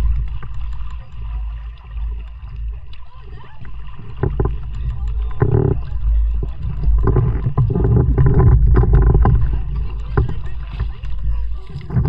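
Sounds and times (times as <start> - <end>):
continuous low rumble: 0.0 - 12.0
paddle splashing water: 0.0 - 12.0.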